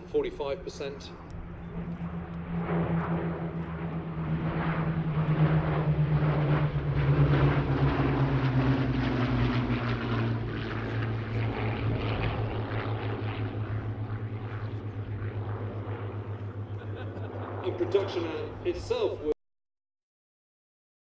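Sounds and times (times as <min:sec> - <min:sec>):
propeller plane engines passing: 0:00.0 - 0:19.4.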